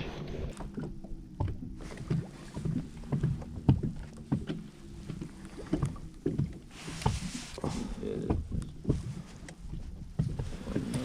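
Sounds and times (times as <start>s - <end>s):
low steady hum: 0.0s - 11.0s
knocks and taps on boat hull: 0.6s - 11.0s.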